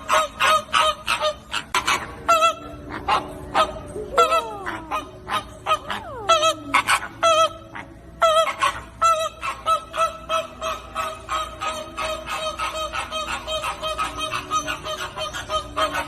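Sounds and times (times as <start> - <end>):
flamingos honking: 0.0 - 16.0.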